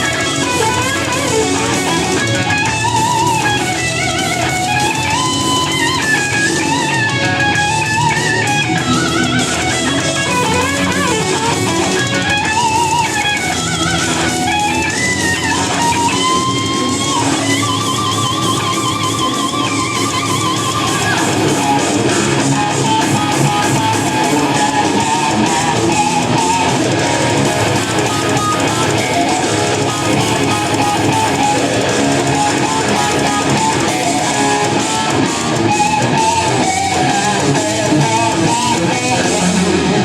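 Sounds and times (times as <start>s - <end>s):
band backing track: 0.0s - 40.0s
electric guitar lead with vibrato: 0.0s - 40.0s.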